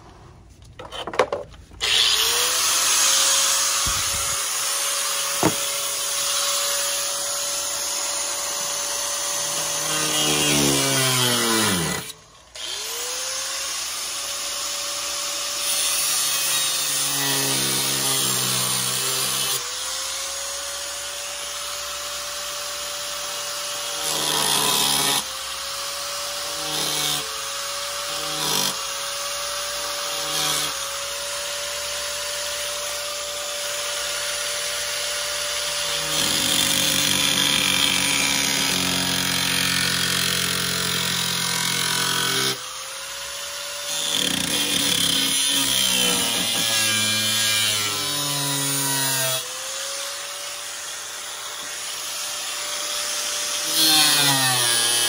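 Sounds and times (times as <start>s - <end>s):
angle grinder cutting metal: 1.8s - 55.0s.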